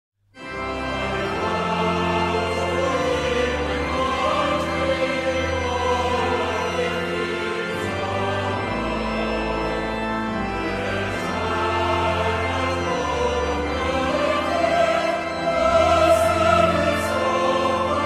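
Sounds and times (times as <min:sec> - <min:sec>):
choir singing held notes: 0:00.8 - 0:18.0.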